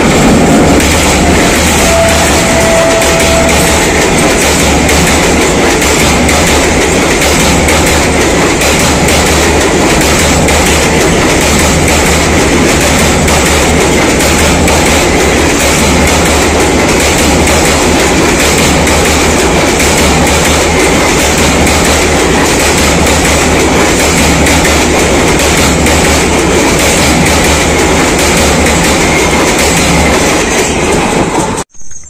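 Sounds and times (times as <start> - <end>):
train wheels clattering on bridge: 0.0 - 31.6.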